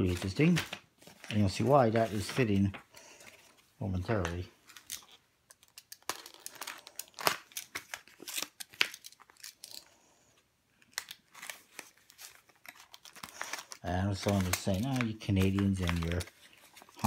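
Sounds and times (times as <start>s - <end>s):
paper packaging crinkling and tearing: 0.0s - 10.0s, 10.8s - 17.0s.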